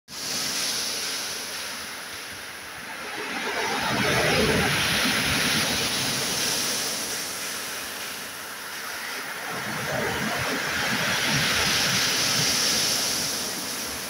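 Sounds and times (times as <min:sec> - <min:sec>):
waves breaking on a pebble beach: 0:00.1 - 0:14.0.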